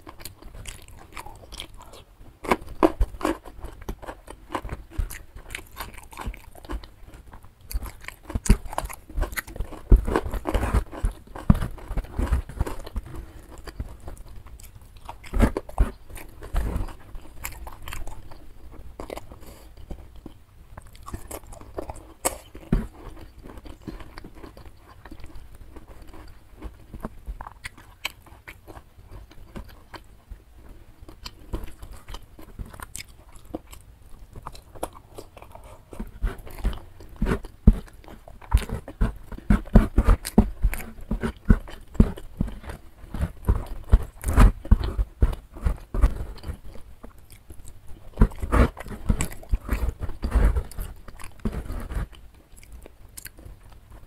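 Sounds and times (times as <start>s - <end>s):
close chewing of food: 0.0s - 54.0s.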